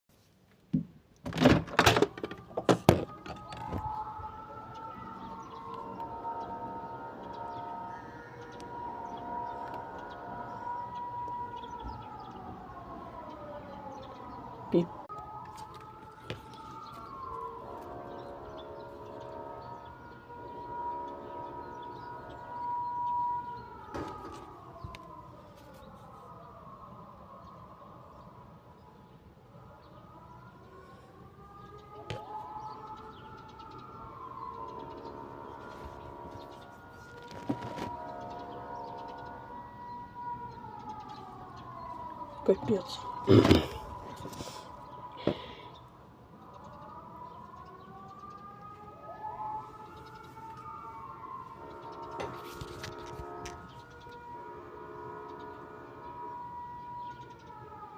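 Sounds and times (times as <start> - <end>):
siren with sliding pitch: 2.2 - 26.4, 30.6 - 45.3, 46.7 - 57.9.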